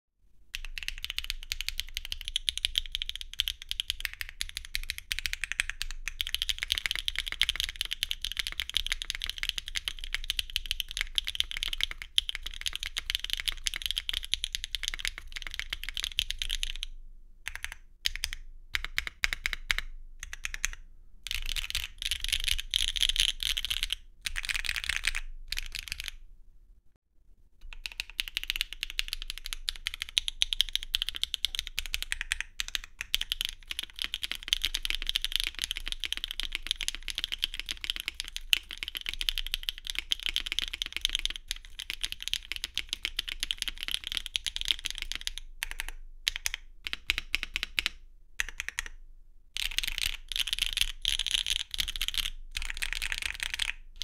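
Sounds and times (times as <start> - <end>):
fast typing on mechanical keyboard: 0.6 - 16.9, 17.5 - 26.2, 27.6 - 49.0, 49.6 - 54.0.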